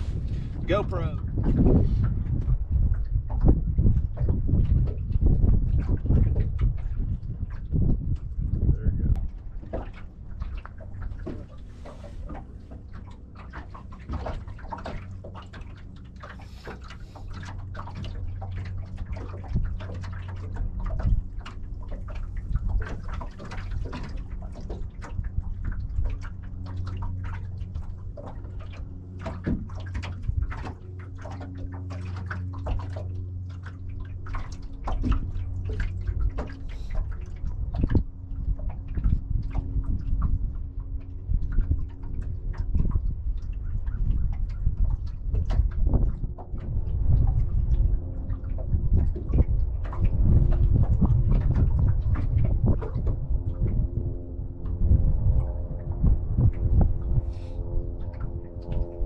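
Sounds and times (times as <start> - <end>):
low steady hum: 0.0 - 59.0
waves lapping against boat hull: 0.0 - 59.0.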